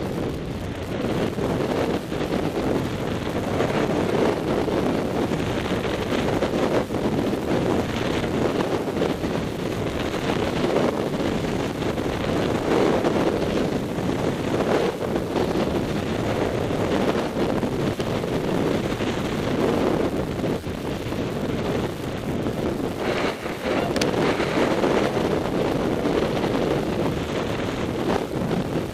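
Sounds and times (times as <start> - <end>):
snowboard scraping over snow: 0.0 - 28.9
wind rushing over microphone: 0.0 - 28.9.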